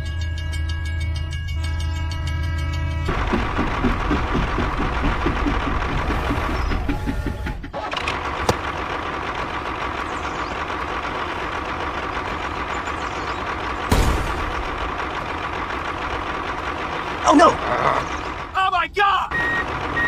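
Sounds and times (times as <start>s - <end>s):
rhythmic engine chugging: 0.0s - 20.0s
tractor engine running: 2.6s - 20.0s.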